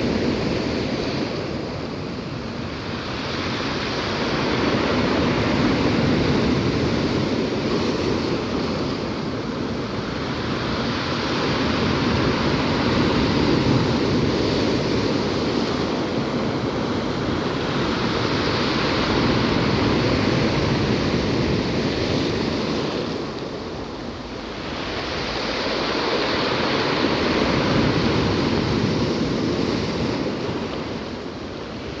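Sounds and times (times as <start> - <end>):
waves breaking on shore: 0.0 - 32.0.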